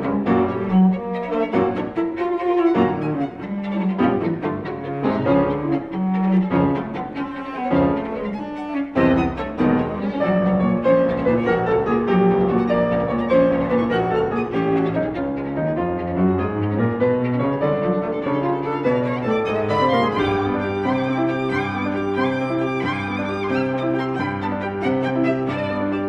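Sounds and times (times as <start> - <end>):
bowed strings: 0.0 - 26.0
piano: 0.0 - 26.0.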